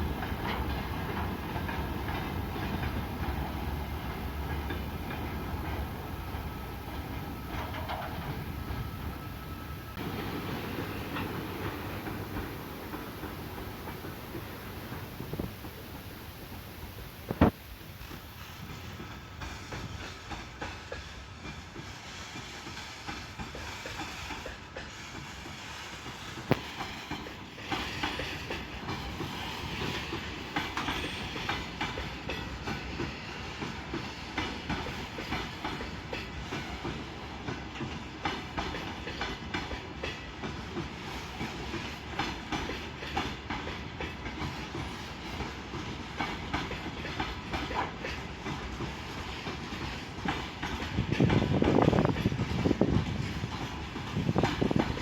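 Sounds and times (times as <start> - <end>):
train wheels clattering: 0.0 - 55.0.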